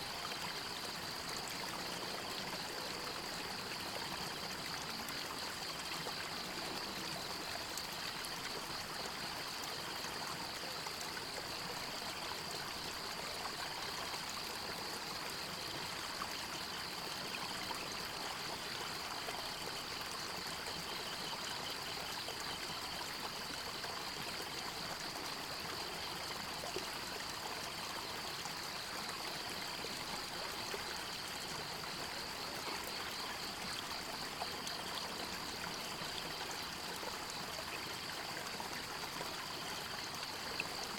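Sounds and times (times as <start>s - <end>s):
stream rushing and trickling: 0.0s - 40.9s.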